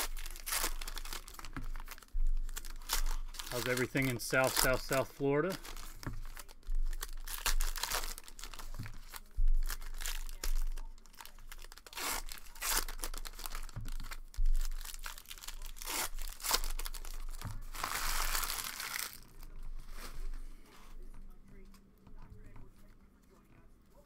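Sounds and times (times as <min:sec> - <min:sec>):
plastic wrapper crinkling: 0:00.0 - 0:20.7.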